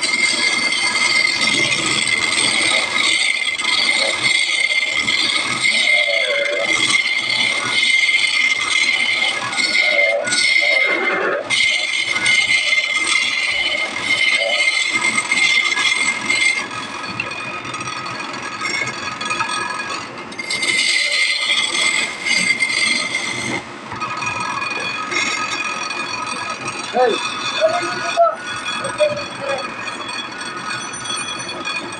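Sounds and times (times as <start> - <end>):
scraping and rattling: 0.0 - 31.9
workshop machine whining: 0.0 - 31.9.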